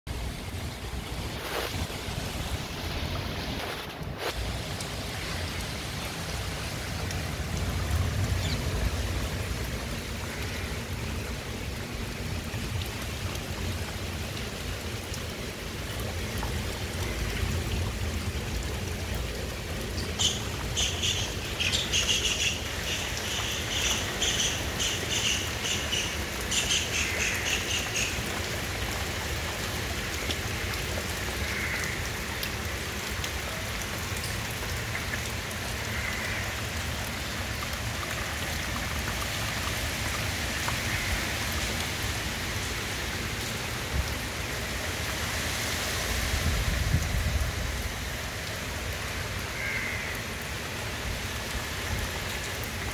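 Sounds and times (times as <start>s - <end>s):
rain falling on foliage: 0.1s - 52.9s.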